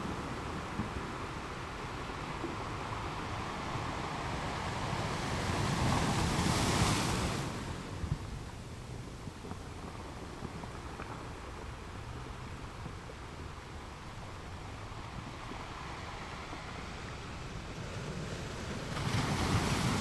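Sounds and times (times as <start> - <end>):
sea waves on a beach: 0.0 - 20.0.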